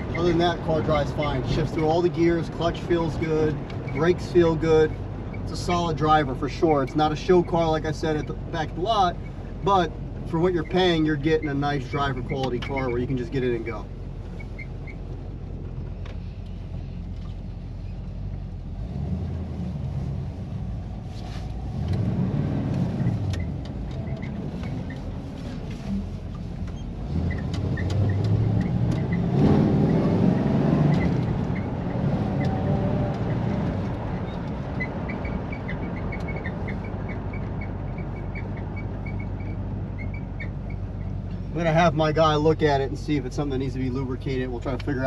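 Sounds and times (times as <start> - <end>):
car engine pulling on the road: 0.0 - 45.0.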